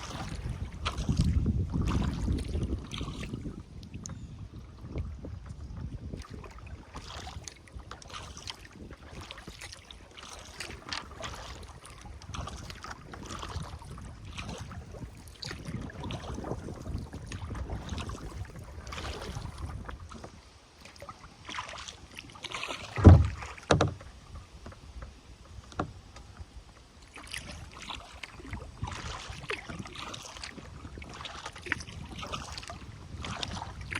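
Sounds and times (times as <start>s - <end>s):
paddle strokes splashing: 0.0s - 33.9s
water running along hull: 0.0s - 33.9s.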